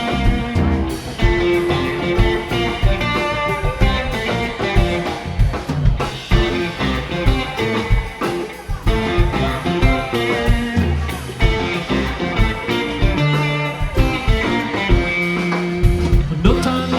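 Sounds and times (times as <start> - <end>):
bass: 0.0 - 16.9
drum kit steady beat: 0.0 - 16.9
guitars: 0.0 - 16.9
keyboard: 0.0 - 16.9
rock band playing instrumental: 0.0 - 16.9.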